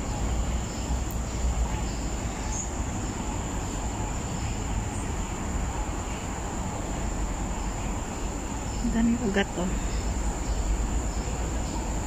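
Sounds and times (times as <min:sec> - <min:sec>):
high-pitched insect drone: 0:00.0 - 0:12.0
low outdoor rumble: 0:00.0 - 0:12.0.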